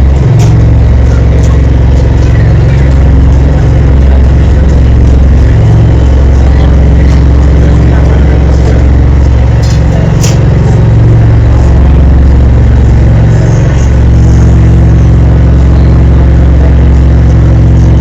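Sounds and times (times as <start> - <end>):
boat motor droning: 0.0 - 18.0.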